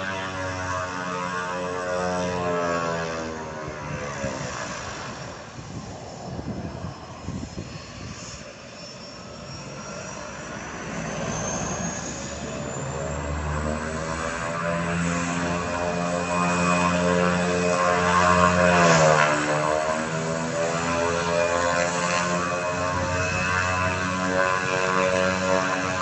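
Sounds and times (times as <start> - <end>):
high turbine whine: 0.0 - 26.0
propeller drone: 0.0 - 26.0.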